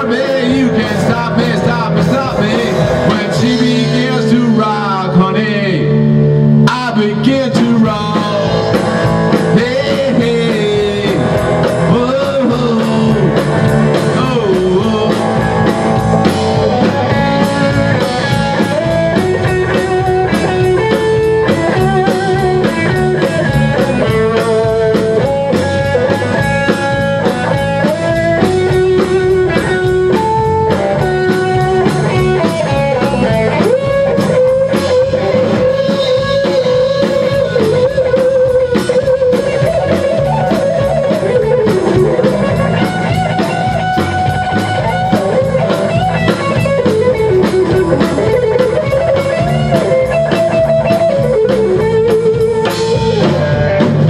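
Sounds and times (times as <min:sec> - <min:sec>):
drum kit beat: 0:00.0 - 0:54.0
electric guitar lead: 0:00.0 - 0:54.0
rhythm guitar: 0:00.0 - 0:54.0.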